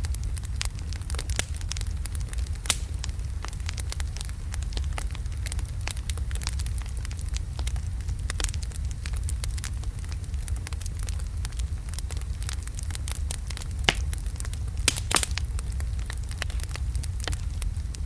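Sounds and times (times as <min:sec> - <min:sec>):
fire rumbling in fireplace: 0:00.0 - 0:18.0
wood crackling and popping: 0:00.0 - 0:18.0.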